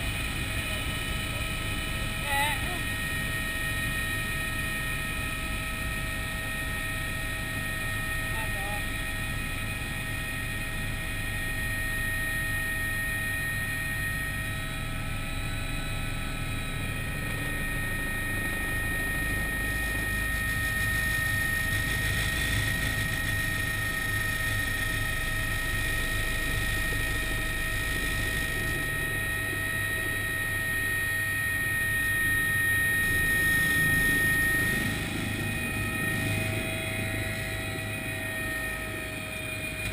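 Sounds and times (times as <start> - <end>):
helicopter rotor rumble: 0.0 - 39.9
helicopter turbine whine: 0.0 - 39.9.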